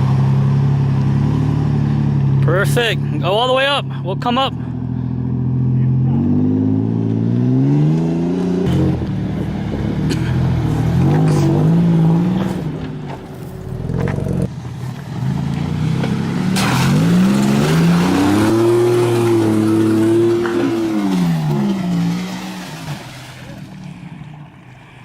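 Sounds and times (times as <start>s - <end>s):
off-road engine revving: 0.0s - 25.0s.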